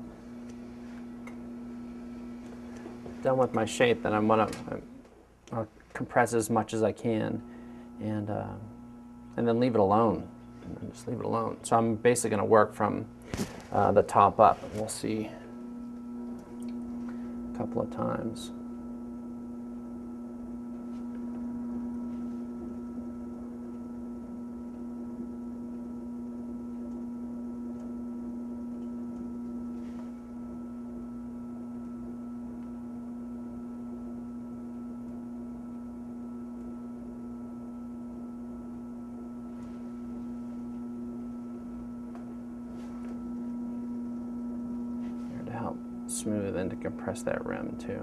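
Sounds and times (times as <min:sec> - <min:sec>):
potter's wheel humming: 0:00.0 - 0:48.0.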